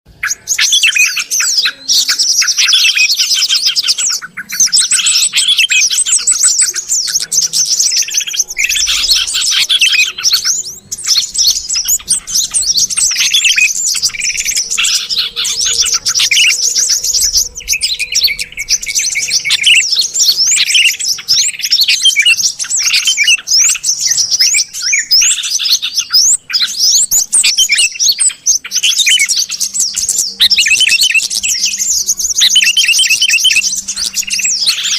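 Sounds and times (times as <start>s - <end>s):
bulbuls chattering and chirping: 0.1s - 34.9s.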